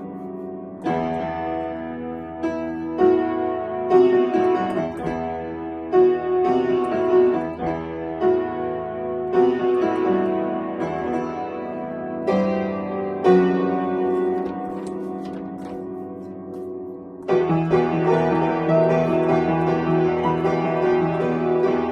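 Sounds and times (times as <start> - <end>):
solo piano: 0.0 - 21.9.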